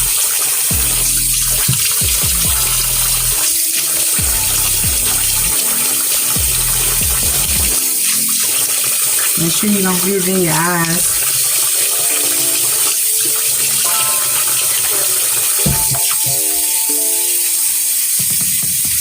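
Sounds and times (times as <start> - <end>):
water running from tap: 0.0 - 19.0.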